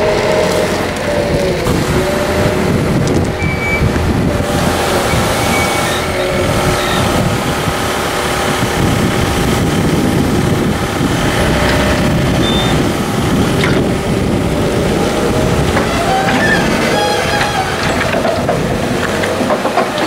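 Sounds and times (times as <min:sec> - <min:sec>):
forklift engine running: 0:00.0 - 0:20.0.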